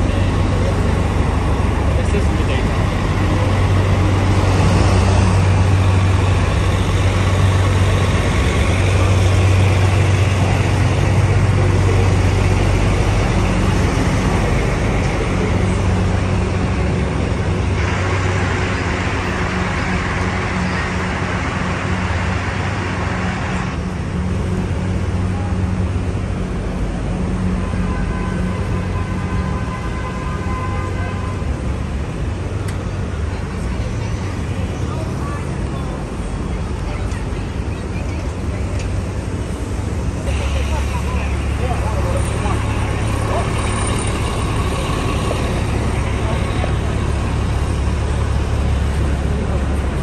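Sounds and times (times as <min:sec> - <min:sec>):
bus engine droning: 0:00.0 - 0:50.0
street traffic noise: 0:00.0 - 0:50.0.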